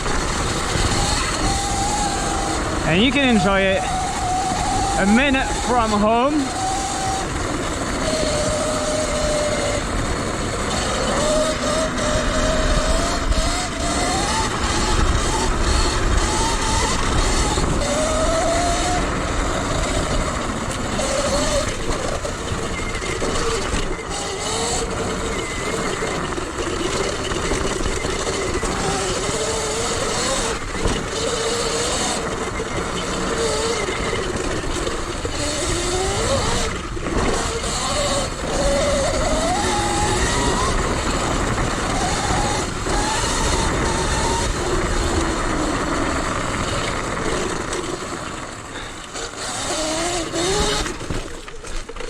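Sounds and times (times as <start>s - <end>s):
electric motor whine: 0.0s - 52.0s
steady rushing noise: 0.0s - 52.0s.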